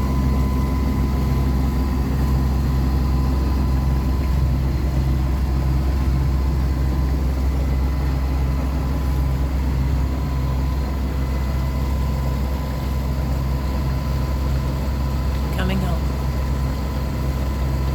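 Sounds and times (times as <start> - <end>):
boat engine droning: 0.0 - 17.9.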